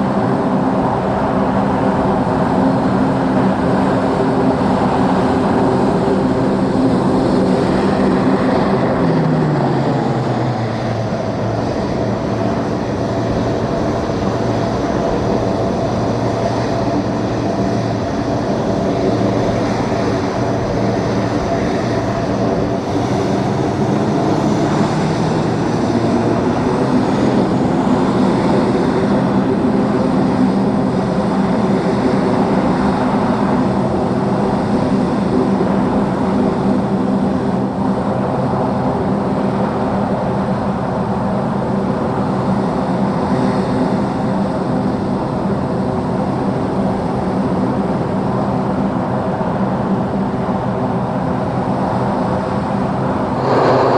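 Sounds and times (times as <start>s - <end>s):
aircraft engines running: 0.0s - 53.9s.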